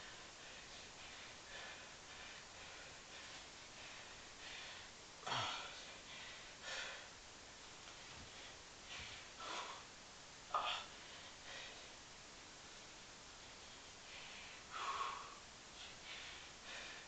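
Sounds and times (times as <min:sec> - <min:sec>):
man breathing hard: 0:00.0 - 0:07.2, 0:07.9 - 0:12.0, 0:12.8 - 0:17.0.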